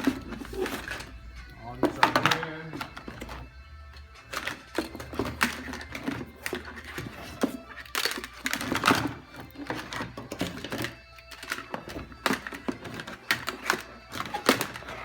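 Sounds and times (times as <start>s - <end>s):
shoe trees clacking together: 0.0s - 3.5s, 4.2s - 15.0s.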